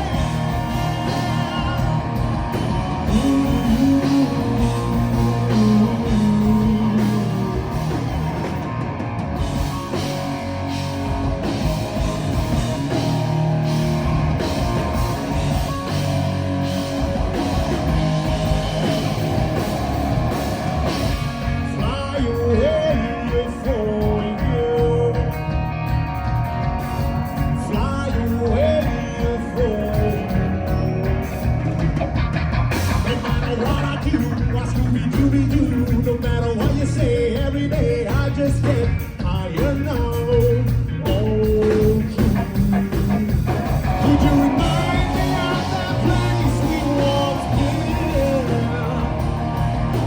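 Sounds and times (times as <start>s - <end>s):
electric guitar: 0.0s - 50.0s
live rock band playing: 0.0s - 50.0s
steady drum beat: 0.0s - 50.0s.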